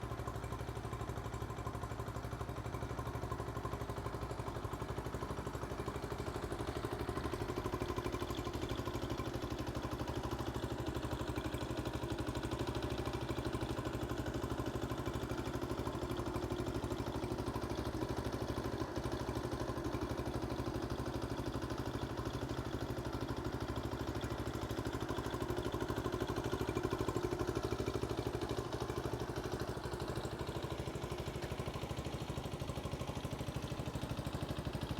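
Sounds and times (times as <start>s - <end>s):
small engine idling: 0.0s - 34.9s.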